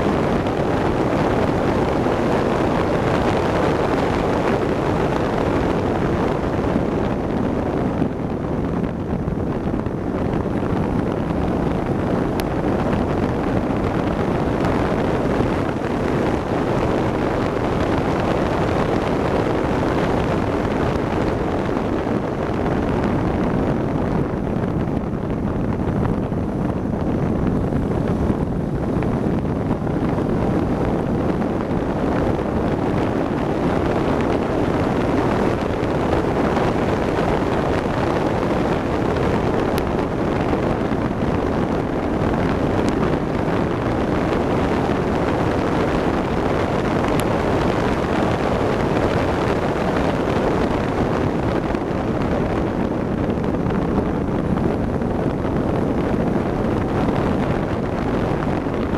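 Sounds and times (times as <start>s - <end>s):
road noise: 0.0s - 58.9s
wind buffeting microphone: 0.0s - 58.9s.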